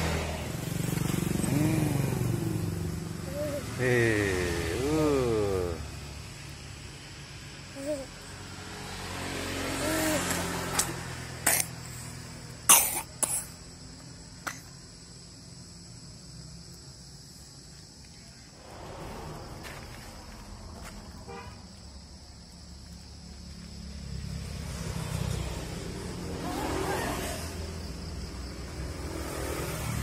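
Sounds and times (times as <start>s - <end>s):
vehicle engines rumbling: 0.0s - 16.7s, 17.6s - 30.0s.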